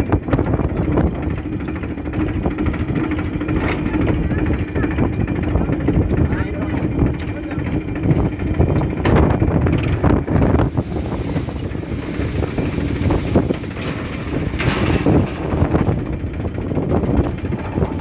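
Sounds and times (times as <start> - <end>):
hydraulics raising trailer bed: 0.0 - 18.0
tractor diesel engine running: 0.0 - 18.0
wind buffeting microphone: 0.0 - 18.0.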